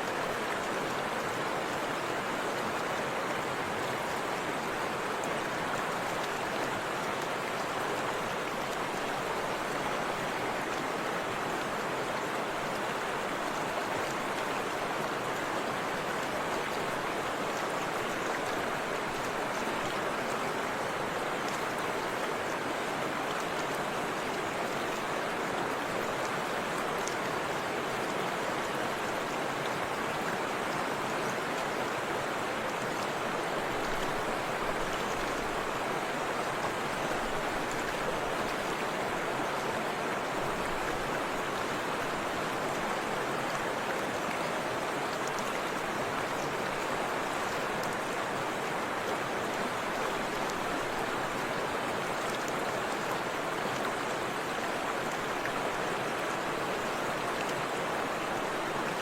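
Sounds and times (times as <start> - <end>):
river and waterfall rushing: 0.0 - 59.0.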